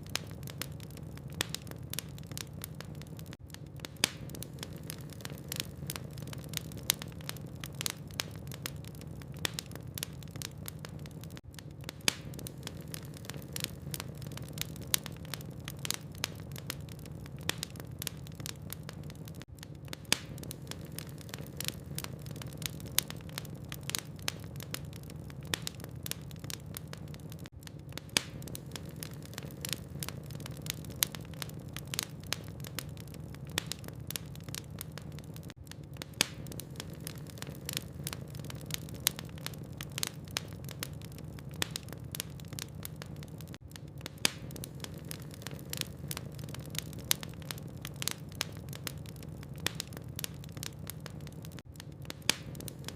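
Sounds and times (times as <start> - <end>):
burning logs crackling: 0.0 - 52.9.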